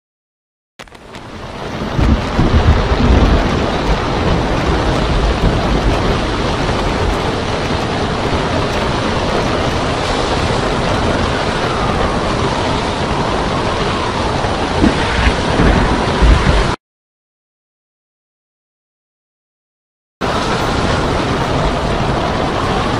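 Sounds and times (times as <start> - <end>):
heavy surf breaking on rocks: 0.8 - 16.8, 20.2 - 22.9
storm wind: 0.8 - 16.8, 20.2 - 22.9.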